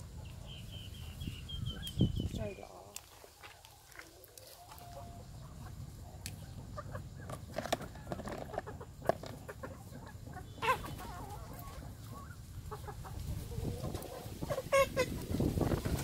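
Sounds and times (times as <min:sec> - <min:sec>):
hen clucking: 0:00.0 - 0:16.0.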